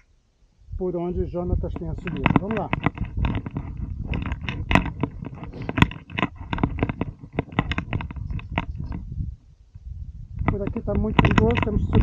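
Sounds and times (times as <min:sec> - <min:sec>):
low rumble: 0:00.6 - 0:12.0.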